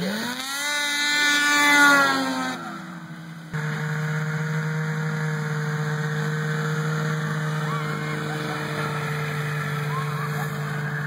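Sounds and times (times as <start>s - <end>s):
snowmobile engine passing by: 0.0s - 11.0s
snowmobile engine running steadily: 0.2s - 11.0s.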